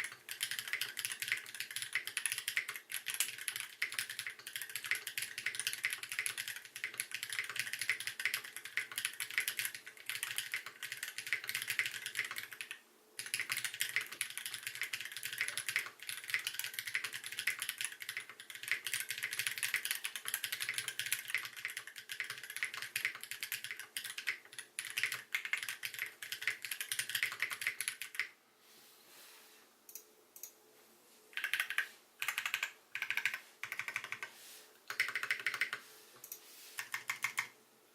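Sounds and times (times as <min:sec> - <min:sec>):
mechanical keyboard typing: 0:00.0 - 0:28.4, 0:31.4 - 0:34.3, 0:34.9 - 0:37.6.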